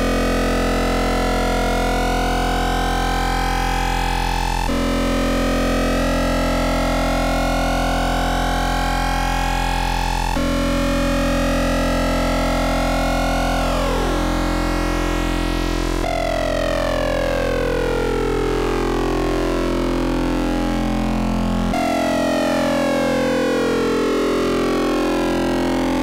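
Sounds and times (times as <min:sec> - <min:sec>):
buzzy modular synthesizer drone: 0:00.0 - 0:26.0.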